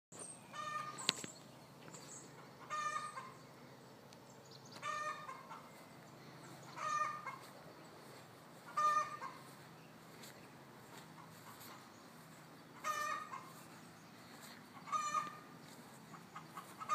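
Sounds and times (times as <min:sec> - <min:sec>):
chicken calling: 0:00.5 - 0:01.3, 0:02.2 - 0:03.5, 0:04.7 - 0:16.9.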